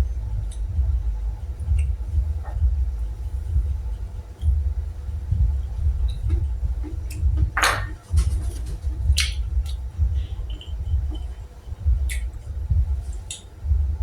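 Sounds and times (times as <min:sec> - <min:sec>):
chewing with low rumble: 0:00.0 - 0:14.0.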